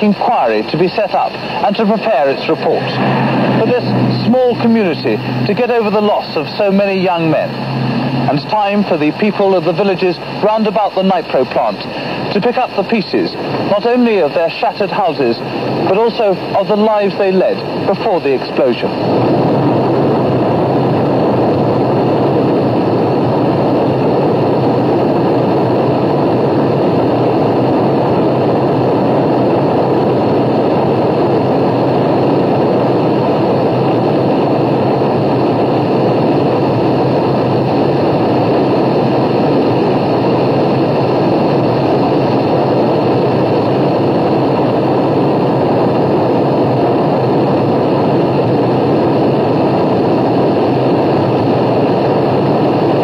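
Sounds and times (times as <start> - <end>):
loud steady noise: 0.0 - 53.0.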